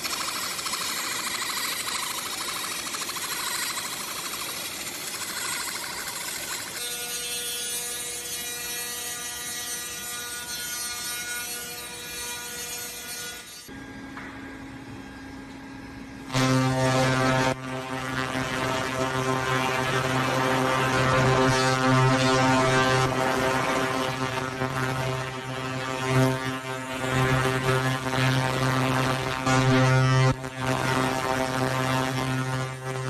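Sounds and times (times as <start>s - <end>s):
laser cleaning machine buzzing: 0.0s - 14.0s, 16.3s - 33.0s.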